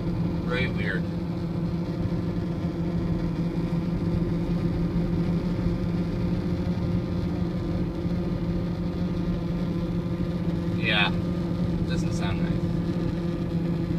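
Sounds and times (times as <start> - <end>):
buzzing drone inside car: 0.0 - 13.9
road and engine noise: 0.0 - 13.9.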